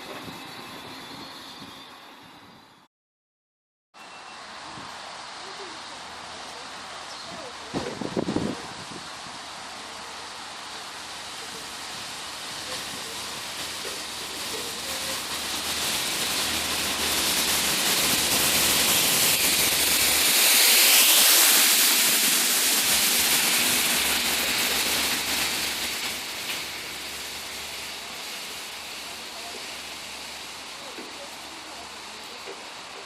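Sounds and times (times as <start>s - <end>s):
train passing at speed: 0.0s - 2.9s, 4.0s - 33.0s.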